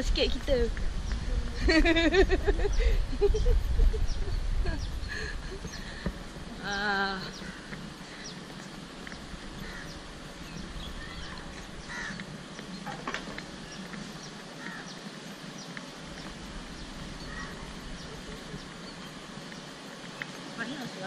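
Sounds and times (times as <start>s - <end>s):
birds calling: 0.0s - 21.0s
outdoor background noise: 0.0s - 21.0s.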